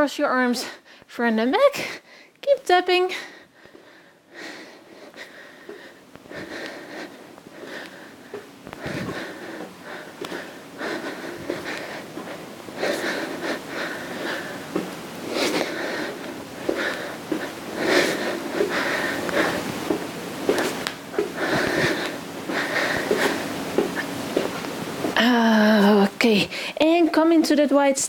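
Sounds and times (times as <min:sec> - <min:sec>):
woman breathing: 0:01.8 - 0:02.4, 0:03.0 - 0:26.8.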